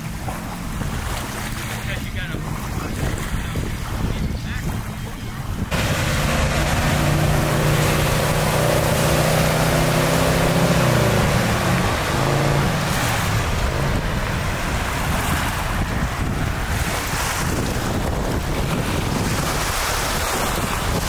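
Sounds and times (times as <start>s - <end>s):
motorboat engine: 0.0s - 21.0s
wind and water rushing: 0.0s - 21.0s.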